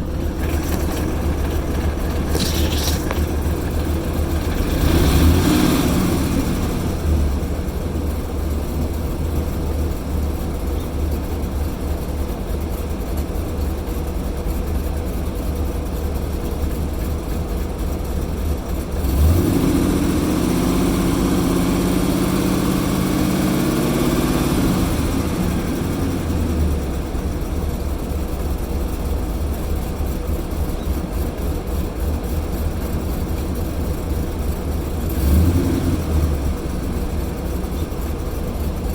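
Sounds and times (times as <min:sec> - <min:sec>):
engine idling roughly: 0:00.0 - 0:38.9.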